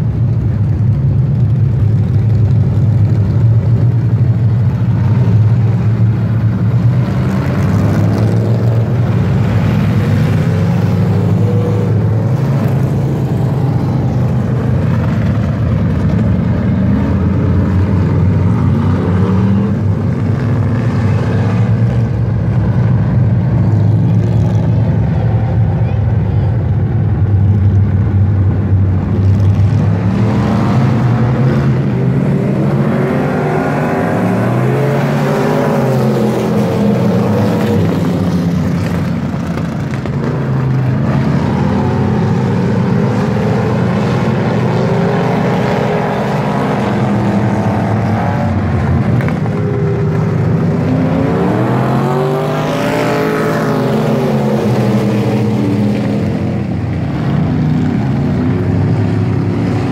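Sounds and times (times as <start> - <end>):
race car engines: 0.0 - 59.9.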